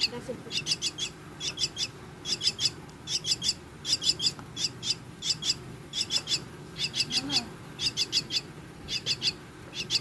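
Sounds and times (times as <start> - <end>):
bird chicks calling: 0.0 - 10.0.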